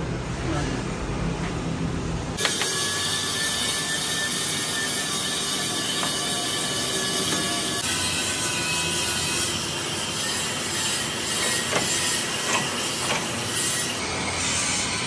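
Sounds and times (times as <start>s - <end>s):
sheet-metal rolling machine running: 2.4s - 15.0s.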